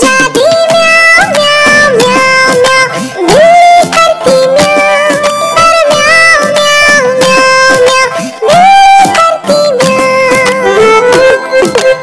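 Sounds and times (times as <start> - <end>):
high-pitched voice singing: 0.0 - 12.0
loud backing track: 0.0 - 12.0.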